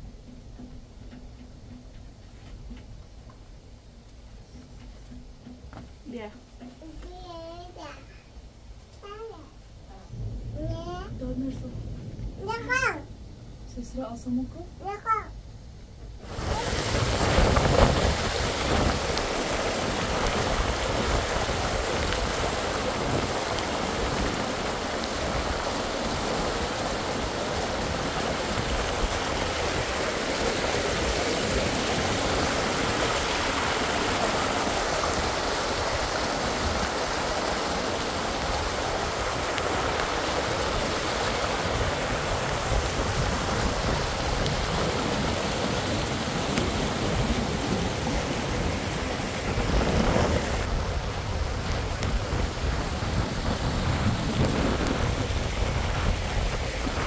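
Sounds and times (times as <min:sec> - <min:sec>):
heavy rain falling: 0:00.0 - 0:13.3, 0:16.1 - 0:57.0.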